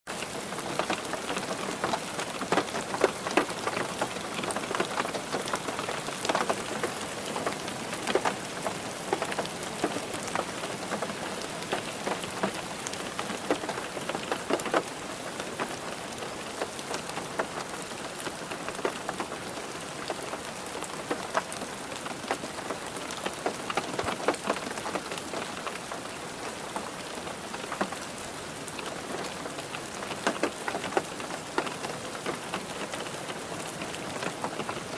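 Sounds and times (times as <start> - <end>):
rain on a car roof: 0.1 - 34.9.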